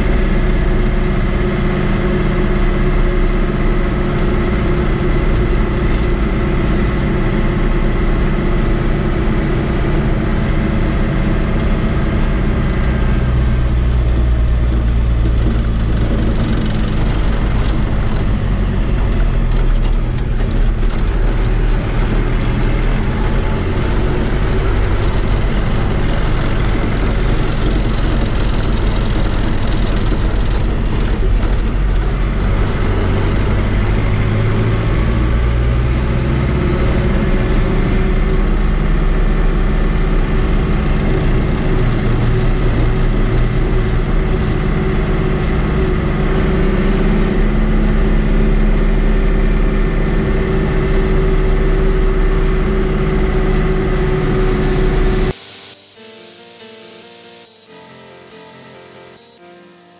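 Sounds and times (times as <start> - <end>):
tractor diesel engine running: 0.0 - 59.8.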